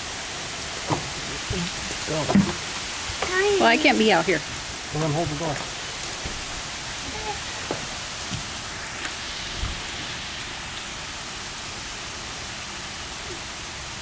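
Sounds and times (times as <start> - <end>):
rain on wooden deck: 0.0 - 14.0.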